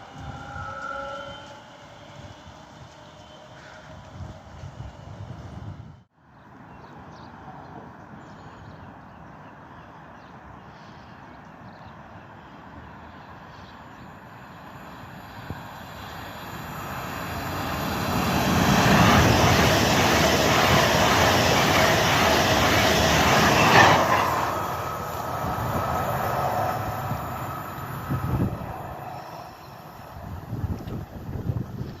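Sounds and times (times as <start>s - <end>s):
train passing with rail noise: 0.0s - 9.0s, 9.6s - 32.0s.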